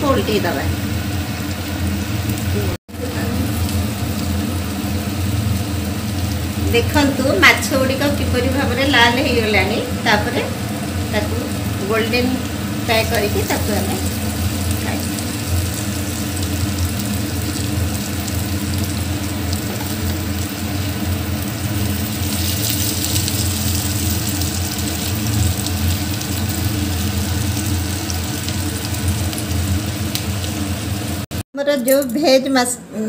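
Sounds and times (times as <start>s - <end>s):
hot oil sizzling in a pan: 0.0s - 31.4s.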